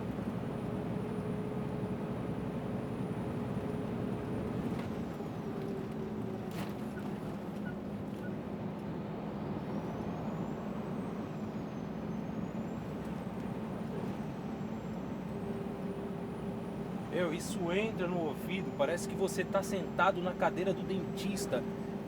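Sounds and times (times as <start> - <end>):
diesel engine: 0.0 - 22.0
road noise: 0.0 - 22.0.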